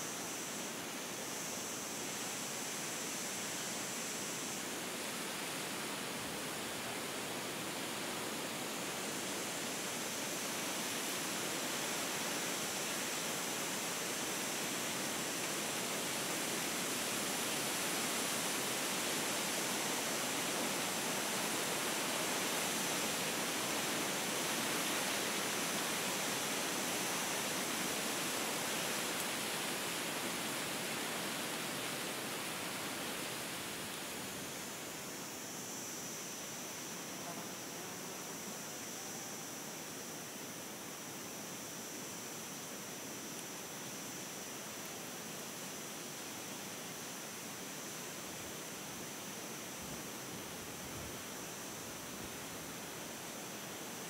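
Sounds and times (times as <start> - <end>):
faint high hiss: 0.0 - 54.0.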